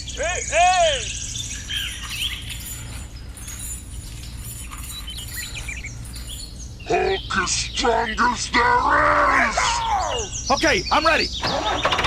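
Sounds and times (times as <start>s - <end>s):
birds chirping: 0.0s - 12.0s
low background hum: 0.0s - 12.0s.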